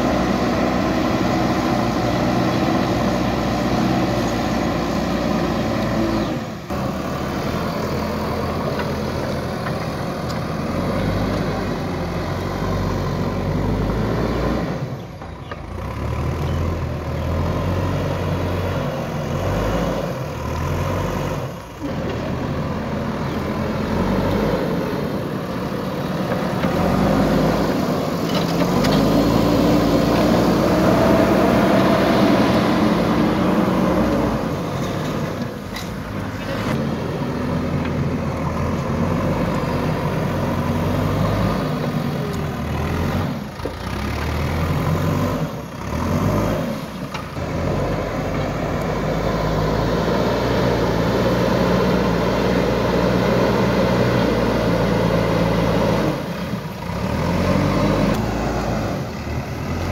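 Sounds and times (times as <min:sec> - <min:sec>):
diesel engine running: 0:00.0 - 0:59.9
loader bucket scooping earth: 0:00.0 - 0:59.9.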